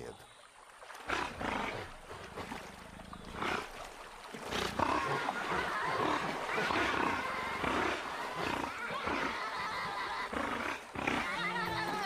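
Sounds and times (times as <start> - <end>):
otters snorting and growling: 1.1 - 12.0.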